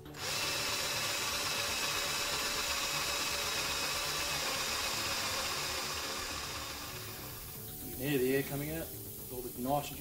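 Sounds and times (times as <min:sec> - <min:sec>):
pressurised gas hissing out: 0:00.0 - 0:10.0.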